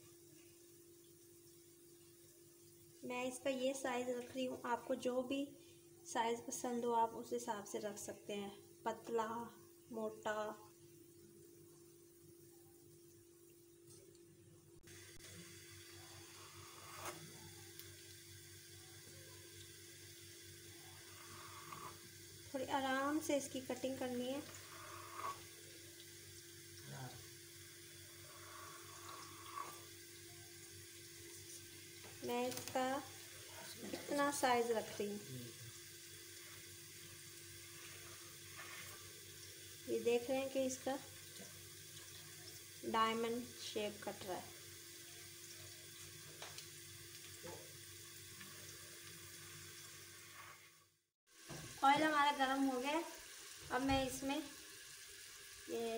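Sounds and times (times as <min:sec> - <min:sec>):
faint hum and hiss: 0:00.0 - 0:55.9.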